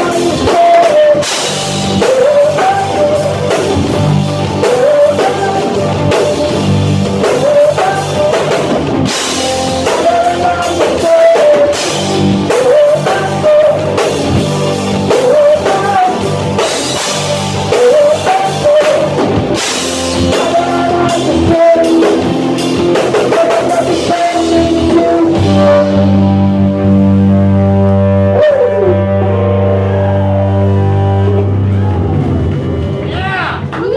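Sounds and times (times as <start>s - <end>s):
person singing: 0.0s - 32.1s
drum kit: 0.0s - 33.9s
electric guitar: 0.0s - 33.9s.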